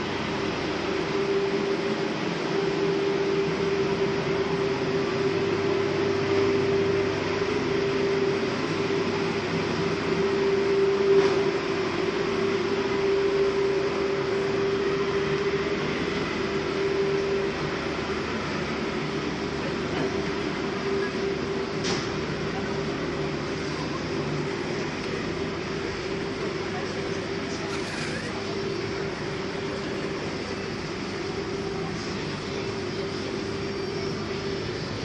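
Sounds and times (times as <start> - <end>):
ship engines droning: 0.0 - 35.0.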